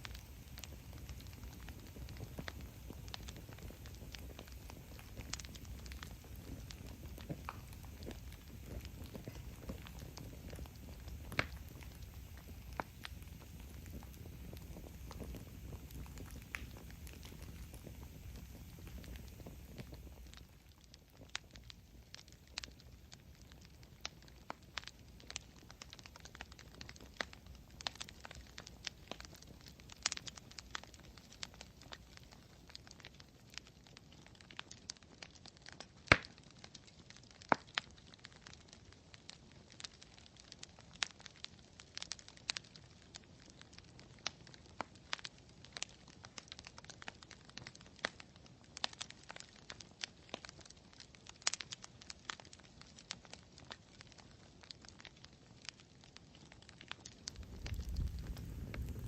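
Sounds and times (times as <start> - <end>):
campfire wood crackling: 0.0 - 59.0.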